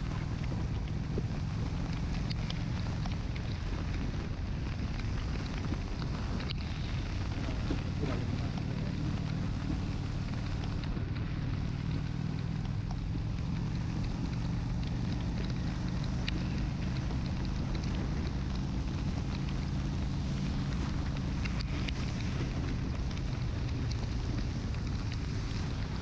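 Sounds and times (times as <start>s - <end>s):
motorcycle engine running: 0.0s - 26.0s
rain ticking on camera: 0.0s - 26.0s
wind buffeting microphone: 0.0s - 26.0s.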